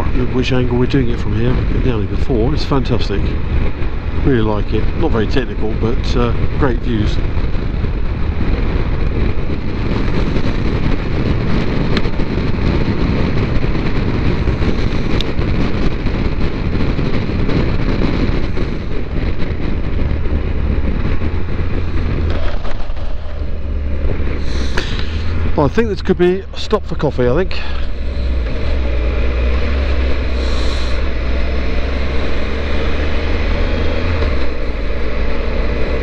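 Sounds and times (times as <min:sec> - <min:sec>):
wind buffeting microphone: 0:00.0 - 0:36.0
motorcycle engine: 0:06.0 - 0:36.0.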